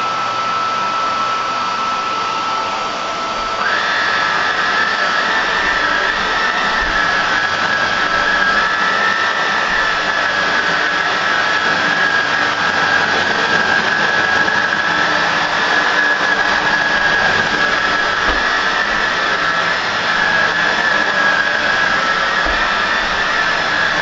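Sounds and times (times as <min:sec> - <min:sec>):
vacuum cleaner whining: 0:00.0 - 0:24.0.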